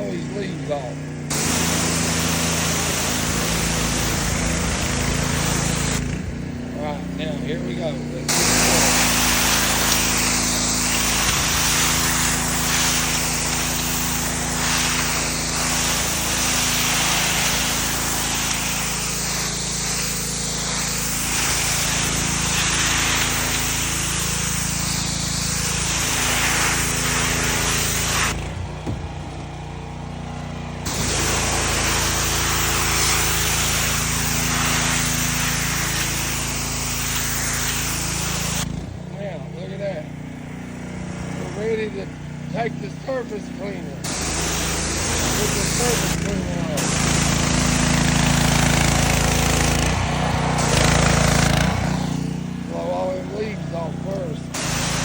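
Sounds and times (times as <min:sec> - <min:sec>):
pressure washer engine running: 0:00.0 - 0:55.0
high-pressure spray hissing: 0:01.2 - 0:06.1, 0:08.3 - 0:28.4, 0:30.8 - 0:38.7, 0:42.8 - 0:55.0.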